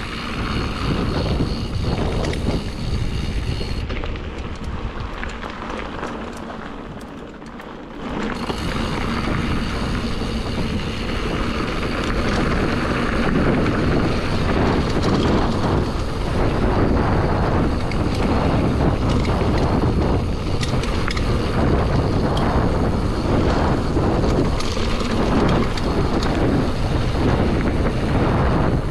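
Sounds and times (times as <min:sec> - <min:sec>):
wind rushing over microphone: 0:00.0 - 0:07.0, 0:07.8 - 0:28.9
bike clicks and knocks: 0:00.0 - 0:28.9
bike tyres rolling over rough trail: 0:00.0 - 0:28.9.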